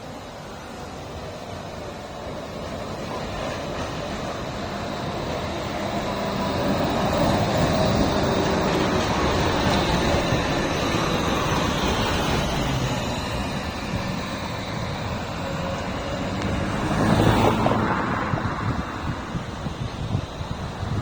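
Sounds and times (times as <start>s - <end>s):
passing vehicle: 0.0s - 21.0s
tram and street traffic rumble: 0.0s - 21.0s
wind on microphone: 3.7s - 21.0s.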